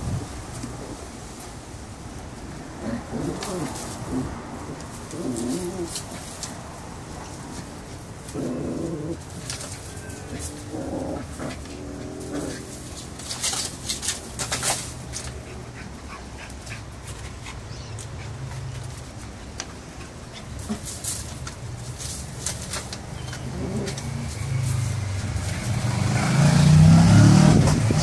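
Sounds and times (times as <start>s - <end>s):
sharp rustles and clicks: 0.0s - 26.0s.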